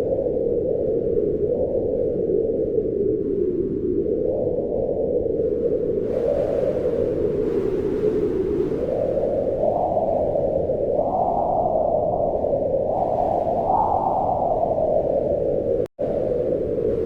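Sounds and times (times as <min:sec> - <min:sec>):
wind blowing in gusts: 0:00.0 - 0:17.0.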